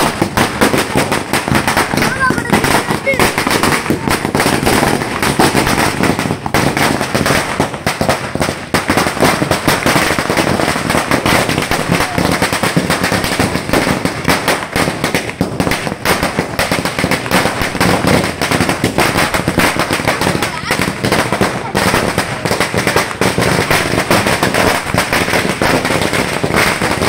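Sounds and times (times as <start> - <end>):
firecracker string bangs: 0.0 - 27.0.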